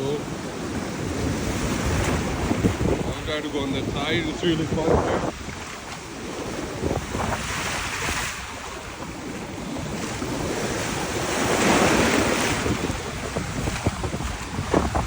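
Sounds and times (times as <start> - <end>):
waves breaking and surging: 0.0 - 15.0
wind buffeting microphone: 0.0 - 15.0.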